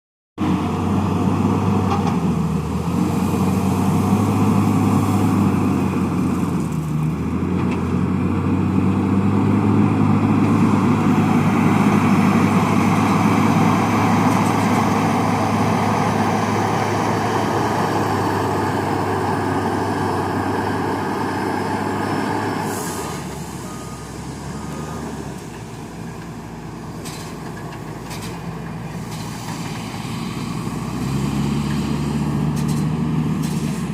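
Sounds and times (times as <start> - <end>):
diesel loader engine running: 0.4 - 33.9.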